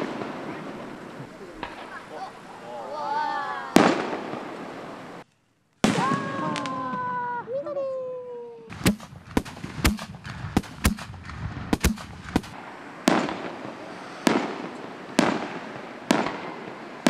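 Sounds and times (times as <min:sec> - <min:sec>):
fireworks bangs: 0:00.0 - 0:05.2, 0:05.8 - 0:07.6, 0:08.7 - 0:17.0.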